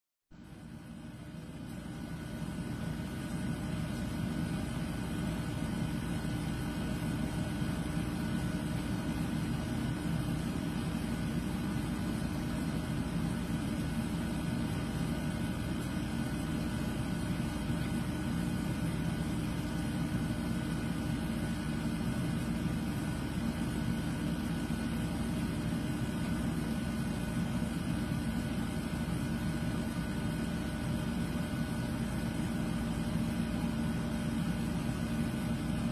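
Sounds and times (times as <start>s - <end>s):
low mechanical hum: 0.3s - 35.9s.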